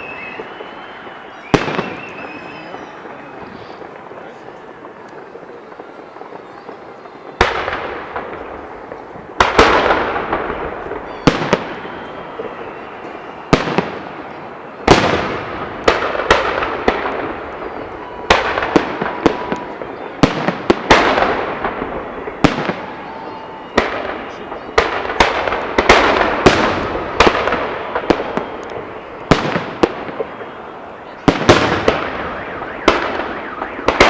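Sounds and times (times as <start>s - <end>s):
fireworks bursting with crackles: 0.0s - 34.0s.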